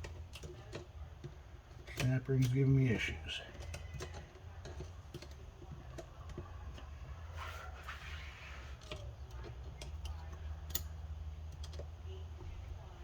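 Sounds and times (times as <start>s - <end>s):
faint metal clicks and taps: 0.0s - 2.8s, 3.4s - 7.0s, 8.8s - 12.8s.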